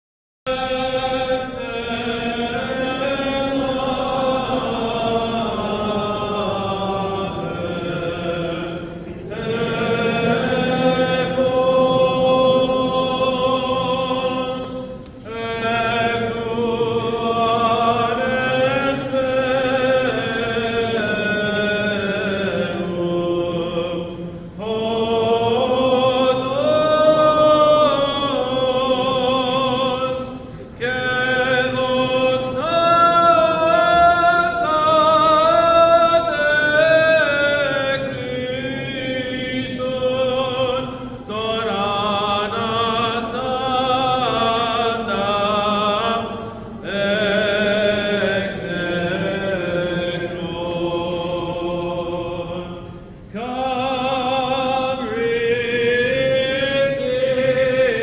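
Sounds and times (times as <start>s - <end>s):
voices chanting: 0.5s - 58.0s.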